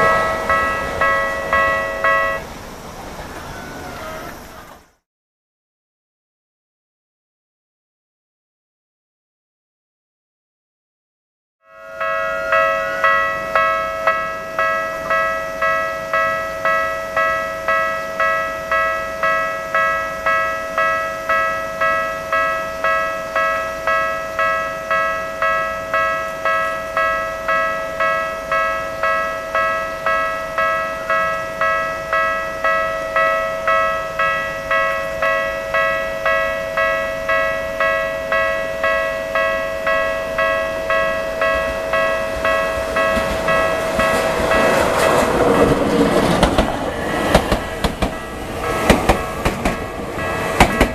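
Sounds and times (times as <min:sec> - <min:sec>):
level-crossing warning bell ringing: 0:00.0 - 0:04.6, 0:11.6 - 0:50.9.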